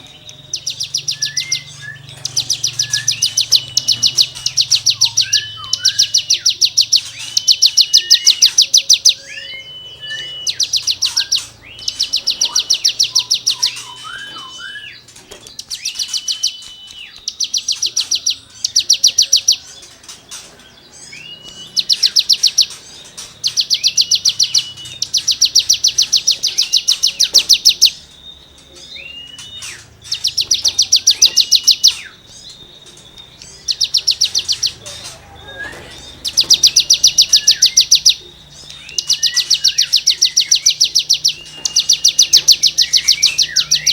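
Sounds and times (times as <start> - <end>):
bird whistled notes: 0.0 - 43.9.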